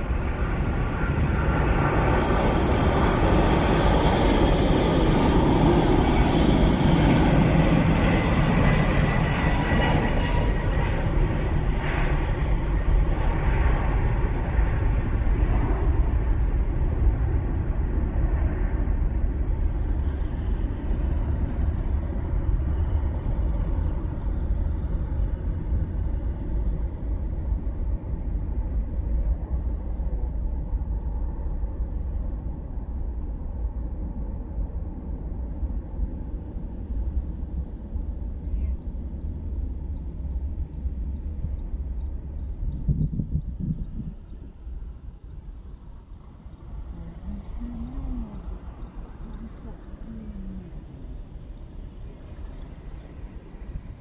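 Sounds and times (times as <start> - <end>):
jet engines deep rumble: 0.0 - 54.0.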